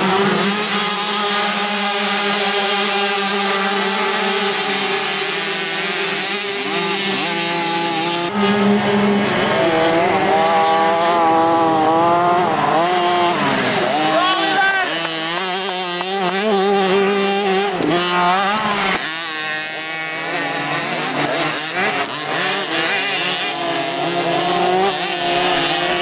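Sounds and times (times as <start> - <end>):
motocross engines revving: 0.0 - 26.0.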